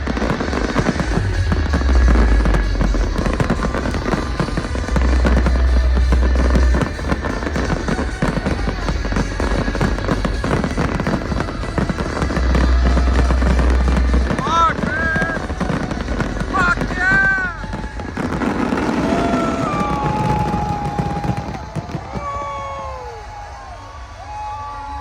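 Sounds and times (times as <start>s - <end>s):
deep bass notes: 0.0s - 21.2s
electronic dance music: 0.0s - 21.7s
fireworks bursting and crackling: 0.0s - 25.0s.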